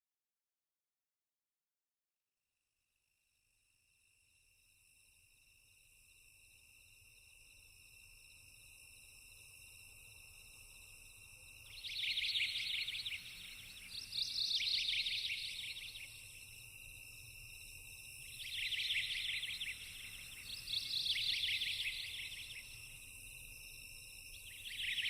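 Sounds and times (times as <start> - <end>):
raspy pulsing insect call: 3.7 - 25.0
insects trilling: 4.9 - 25.0.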